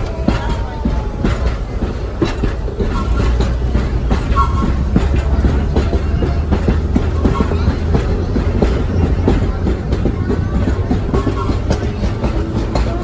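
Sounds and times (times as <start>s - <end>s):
subway car wheels rumbling: 0.0s - 13.0s
wheels clicking over rail joints: 0.0s - 13.0s.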